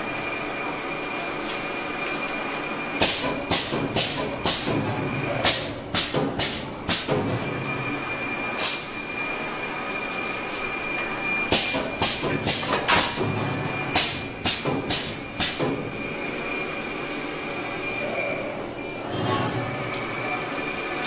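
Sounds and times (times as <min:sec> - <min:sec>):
machine running: 0:00.0 - 0:21.0.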